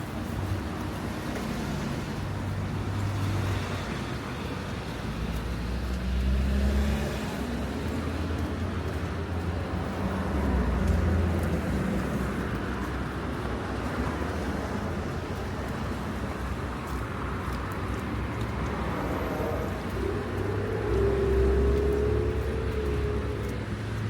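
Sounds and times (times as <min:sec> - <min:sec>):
cars passing with engine rumble: 0:00.0 - 0:24.0.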